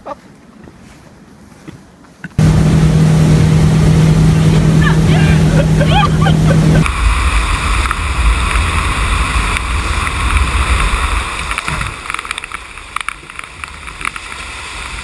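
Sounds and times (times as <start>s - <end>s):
rushing water spray: 2.4s - 15.0s
splashes in whitewater: 2.4s - 15.0s.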